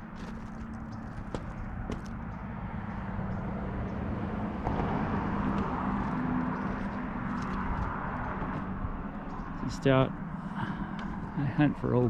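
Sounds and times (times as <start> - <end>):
passing vehicle engine hum: 0.0 - 12.0
road noise rushing: 0.0 - 12.0.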